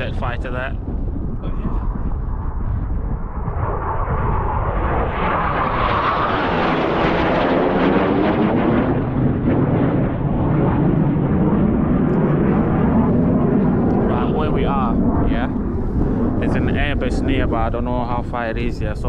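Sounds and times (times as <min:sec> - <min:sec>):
fighter jet flying overhead: 0:00.0 - 0:19.0.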